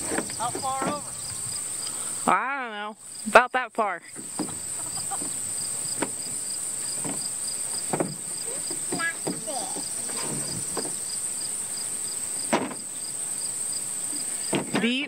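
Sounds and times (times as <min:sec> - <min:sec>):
insects buzzing high-pitched: 0:00.0 - 0:15.0
insect pulsing chirps: 0:00.3 - 0:03.5, 0:04.2 - 0:14.5.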